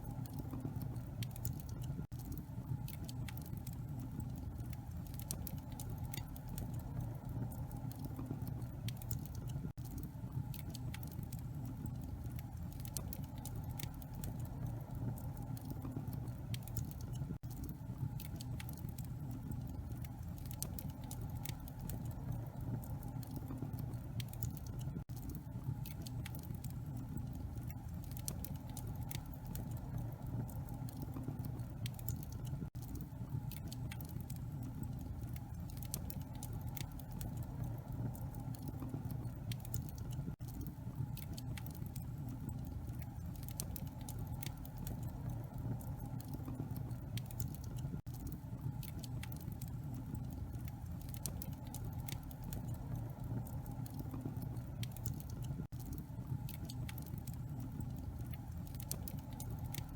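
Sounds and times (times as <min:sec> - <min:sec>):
fire low rumble: 0:00.0 - 0:59.9
logs crackling and popping: 0:00.0 - 0:59.9.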